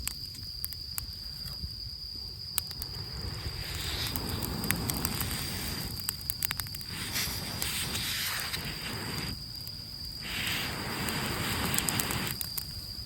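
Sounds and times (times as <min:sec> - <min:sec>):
campfire crackling and popping: 0:00.0 - 0:01.2, 0:02.4 - 0:13.0
soft rushing hiss: 0:00.5 - 0:13.0.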